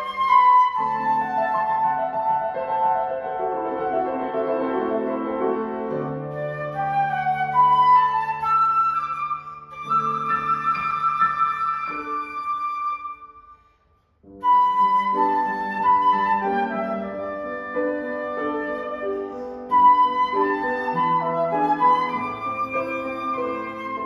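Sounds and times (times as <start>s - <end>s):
wind instrument melody: 0.0s - 13.7s, 14.4s - 24.0s.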